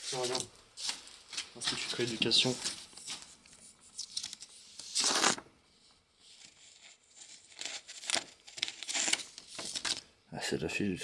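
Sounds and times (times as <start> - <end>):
paper brochure rustling and crinkling: 0.0 - 5.4, 6.2 - 10.1.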